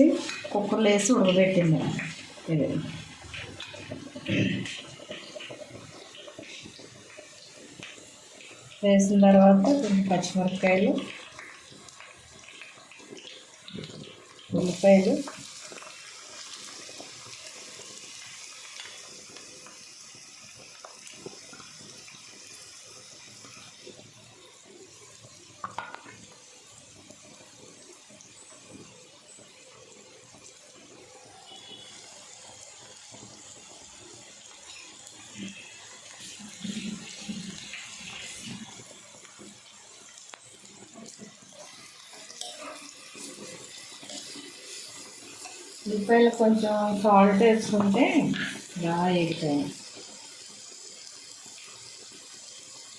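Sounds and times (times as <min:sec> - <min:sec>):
onions sizzling in hot oil: 0:00.0 - 0:52.9.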